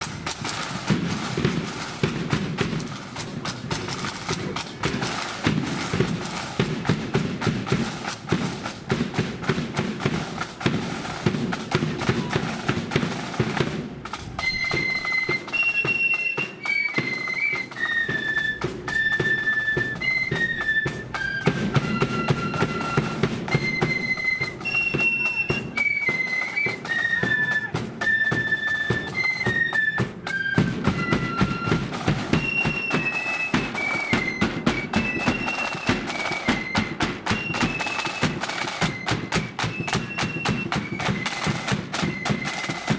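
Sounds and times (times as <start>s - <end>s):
flute melody: 0.0s - 42.9s
snare and bass drums beating: 0.0s - 42.9s.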